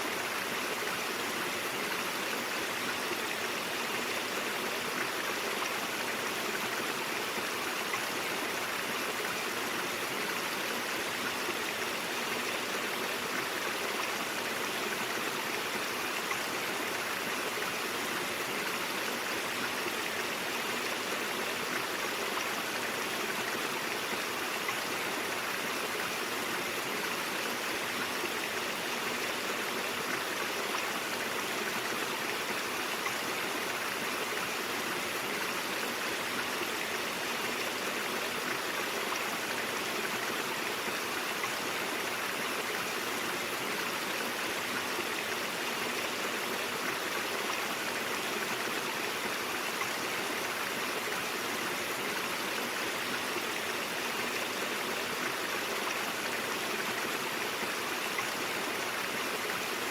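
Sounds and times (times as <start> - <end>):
stream water over rocks: 0.0 - 59.9.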